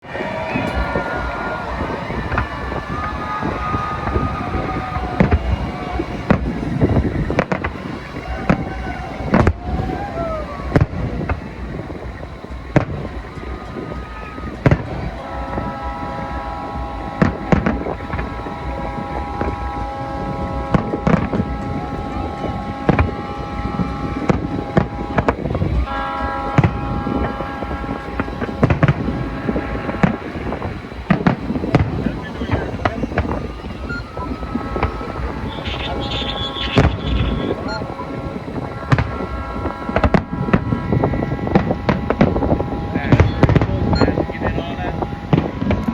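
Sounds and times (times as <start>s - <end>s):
fireworks bangs: 0.0s - 45.9s
fireworks whistling: 0.0s - 45.9s
low rumble: 0.0s - 45.9s
steady multi-pitch tone: 0.0s - 45.9s
fireworks popping: 0.1s - 45.9s.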